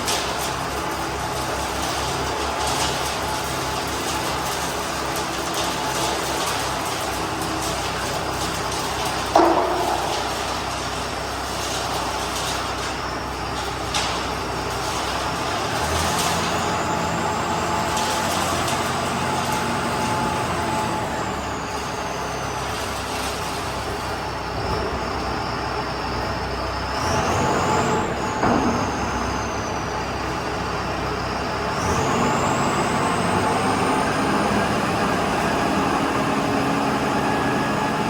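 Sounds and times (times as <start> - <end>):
concrete mixer engine running: 0.0 - 38.0.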